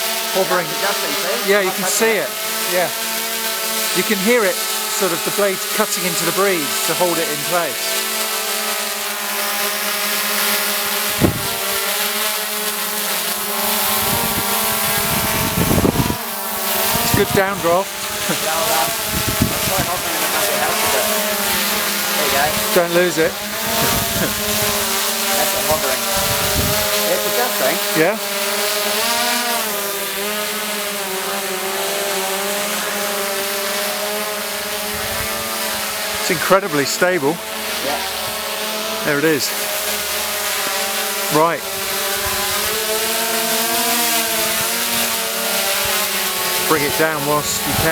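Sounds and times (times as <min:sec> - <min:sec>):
drone motors humming: 0:00.0 - 0:47.9.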